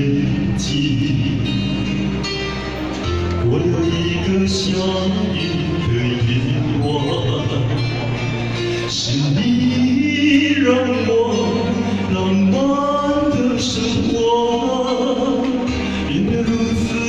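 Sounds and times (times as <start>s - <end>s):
band accompaniment: 0.0s - 17.0s
man singing a pop ballad: 0.0s - 17.0s.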